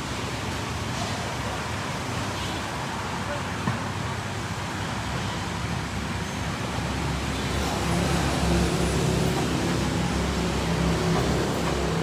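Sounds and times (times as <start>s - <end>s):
street traffic hiss: 0.0s - 12.0s.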